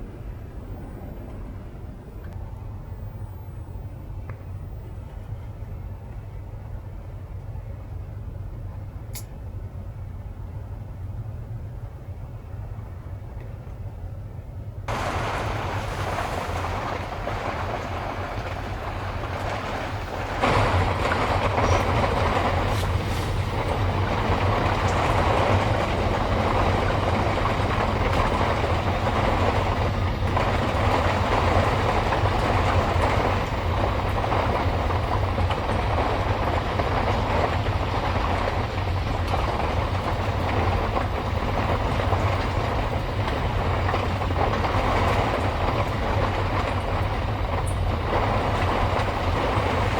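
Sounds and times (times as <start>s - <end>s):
strong wind and heavy rain: 0.0s - 6.8s, 14.9s - 49.9s.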